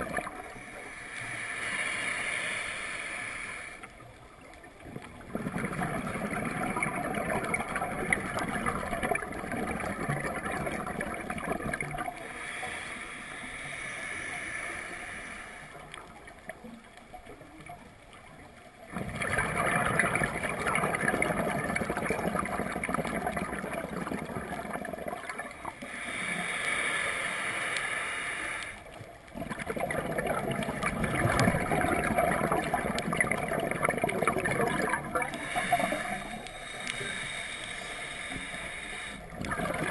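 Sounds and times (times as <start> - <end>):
underwater regulator bubbles gurgling: 0.0 - 39.9.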